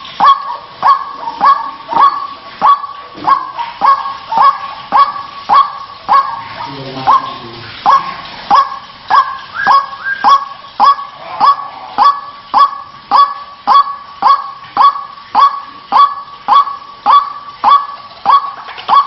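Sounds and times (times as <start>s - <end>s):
waterhen harsh calling: 0.0s - 19.0s.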